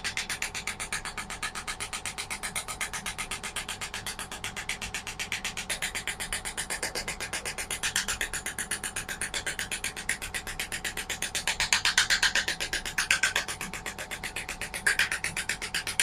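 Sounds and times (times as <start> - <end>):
rapid clicking handpiece: 0.0 - 16.0.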